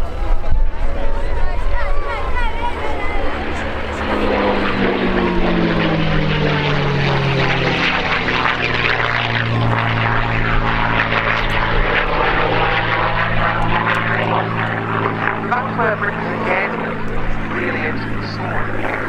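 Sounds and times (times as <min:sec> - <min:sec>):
aircraft engine flying past: 0:00.0 - 0:19.0.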